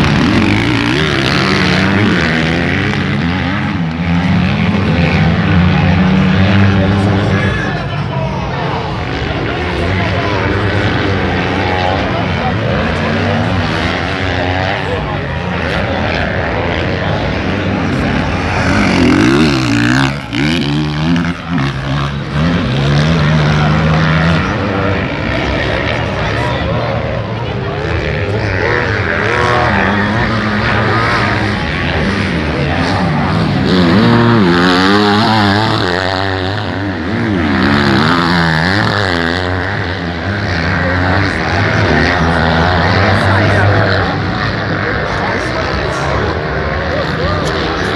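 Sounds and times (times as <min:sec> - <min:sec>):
bike engine revving and shifting: 0:00.0 - 0:07.7, 0:09.0 - 0:47.9
motocross bike engines racing: 0:00.0 - 0:47.9.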